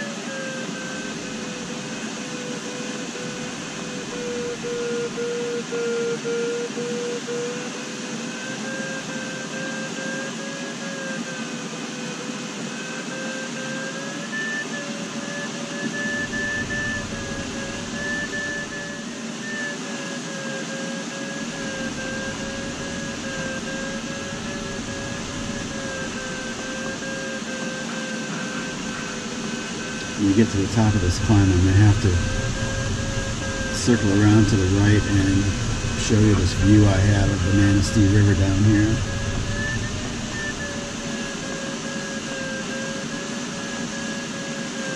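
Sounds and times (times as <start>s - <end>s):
air rushing around cockpit: 0.0s - 44.8s
variometer audio tone: 0.0s - 44.9s.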